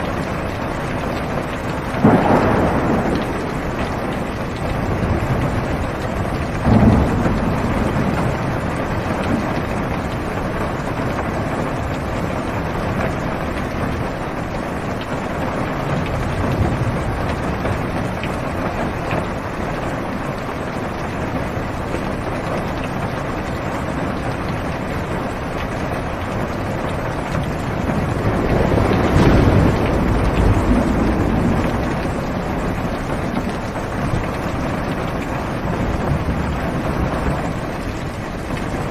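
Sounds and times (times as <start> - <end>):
low rumble of thunder: 0.0 - 38.9
muffled rain on car roof: 0.0 - 38.9.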